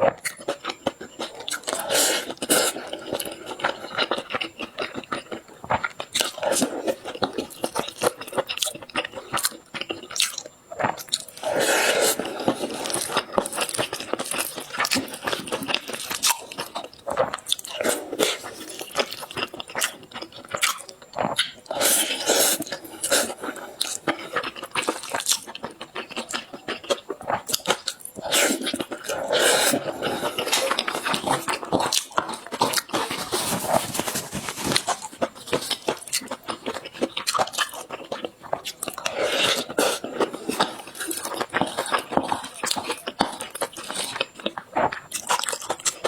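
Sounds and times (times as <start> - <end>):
person chewing crunchy food: 0.0 - 46.0.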